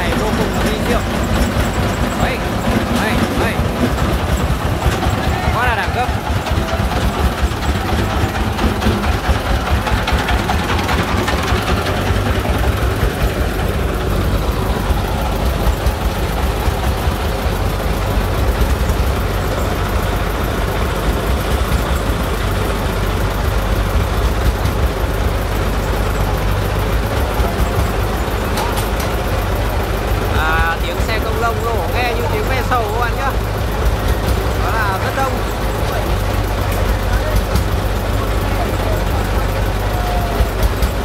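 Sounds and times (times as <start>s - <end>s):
diesel engines running: 0.0s - 41.0s.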